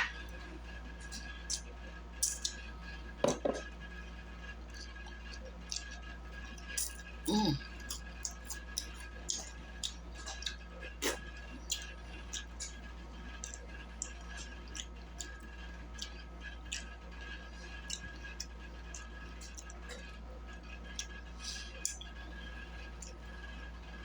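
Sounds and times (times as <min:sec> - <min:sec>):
steady low hum: 0:00.0 - 0:24.0
chewing and lip-smacking: 0:00.1 - 0:24.0.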